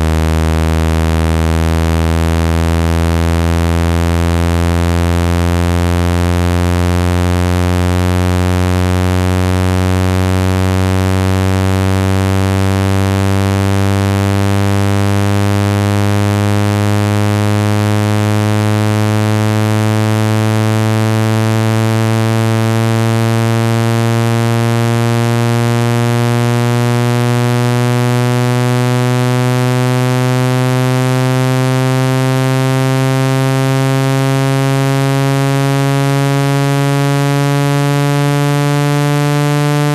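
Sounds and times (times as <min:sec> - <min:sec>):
buzzy electronic tone rising in pitch: 0:00.0 - 0:39.9.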